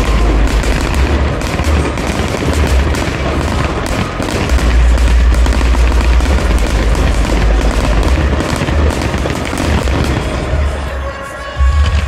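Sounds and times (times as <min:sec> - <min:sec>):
deep fireworks booms: 0:00.0 - 0:10.9
fireworks bangs and crackling bursts: 0:00.0 - 0:12.0.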